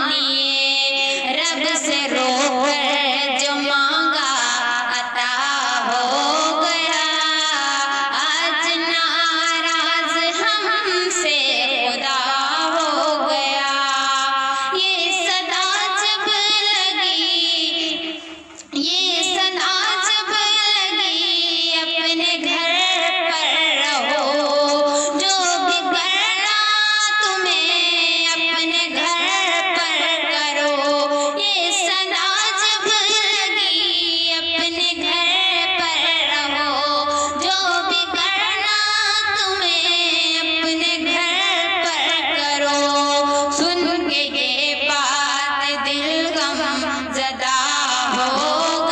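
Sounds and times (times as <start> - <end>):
woman singing slow melody: 0.0 - 48.9.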